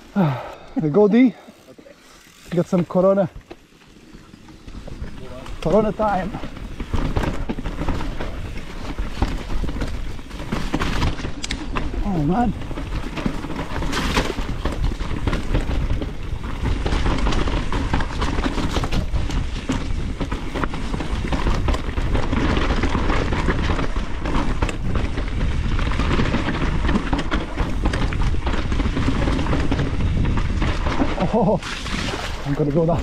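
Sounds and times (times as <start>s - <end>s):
bike knocking and rattling: 0.0s - 33.0s
bike tyres on dirt: 0.0s - 33.0s
wind buffeting: 4.6s - 33.0s.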